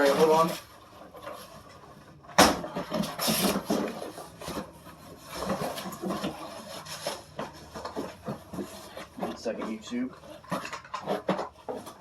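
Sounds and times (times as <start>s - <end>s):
things rubbing and scraping in a box: 0.0s - 12.0s.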